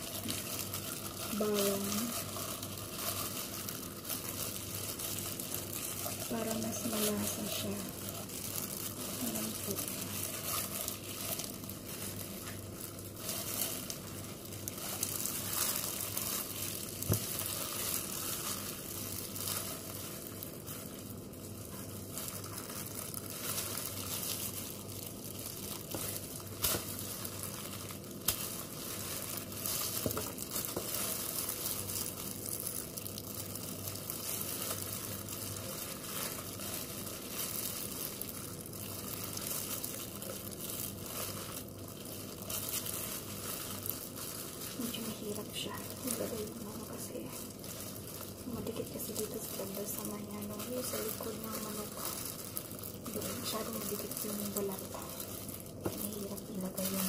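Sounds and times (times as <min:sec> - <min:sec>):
plastic gloves crinkling: 0:00.0 - 0:57.0
wet squishing of meat: 0:00.0 - 0:57.0.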